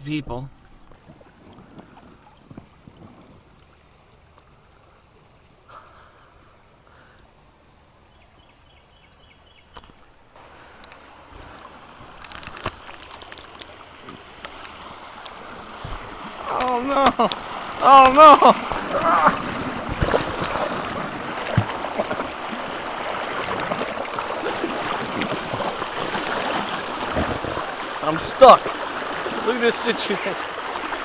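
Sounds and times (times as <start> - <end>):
creek water flowing and lapping: 0.0 - 31.0.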